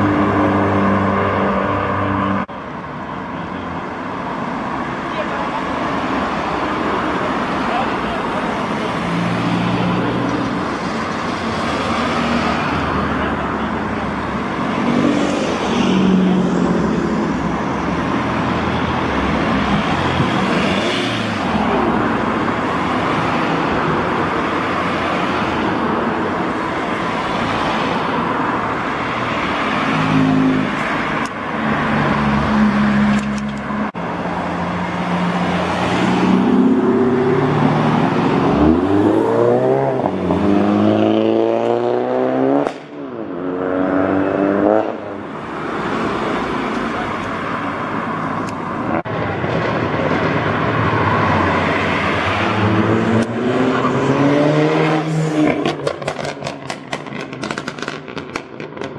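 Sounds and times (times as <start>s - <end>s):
cars driving past: 0.0s - 58.9s.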